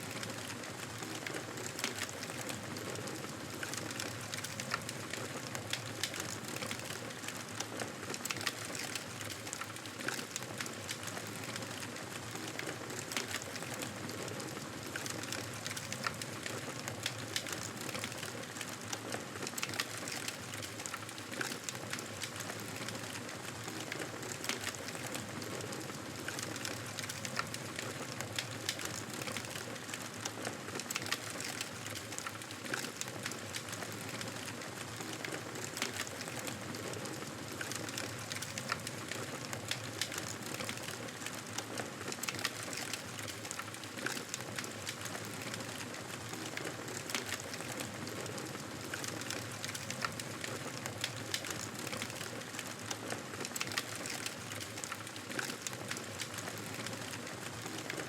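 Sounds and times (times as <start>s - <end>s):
fire crackling and popping: 0.1s - 58.0s
hiss and rustle of flames: 0.1s - 58.0s.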